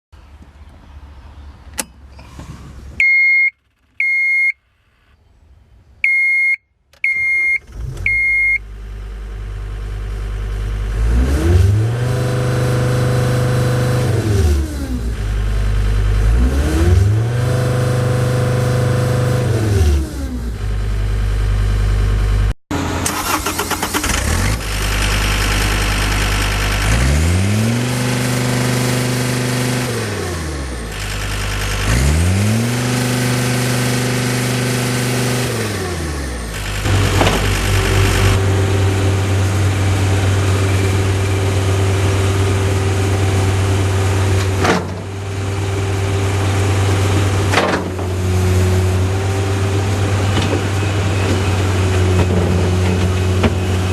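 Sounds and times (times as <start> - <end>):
diesel engine revving: 7.2 - 21.4, 22.4 - 53.9.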